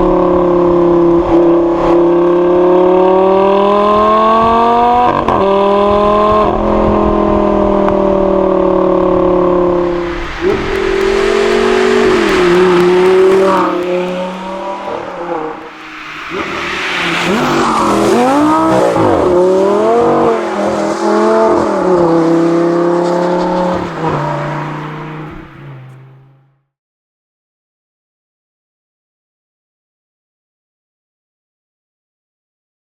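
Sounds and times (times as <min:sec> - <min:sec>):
sports car engine revving: 0:00.0 - 0:26.6.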